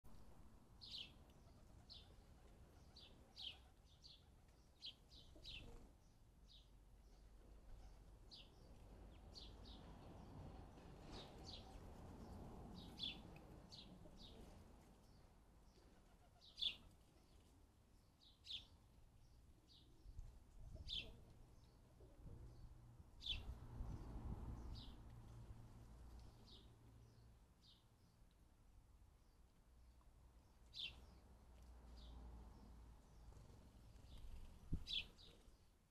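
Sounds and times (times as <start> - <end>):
sparrows chirping: 0.2 - 21.9, 22.5 - 25.1, 26.1 - 28.4, 30.4 - 35.9.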